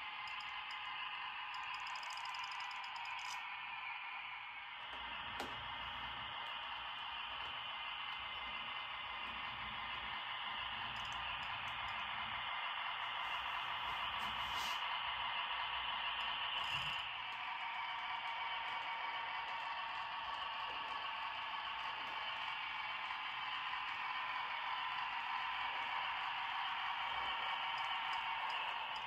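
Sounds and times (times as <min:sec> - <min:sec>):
low hum: 0:00.0 - 0:29.0
model train motor whirring: 0:00.0 - 0:29.0.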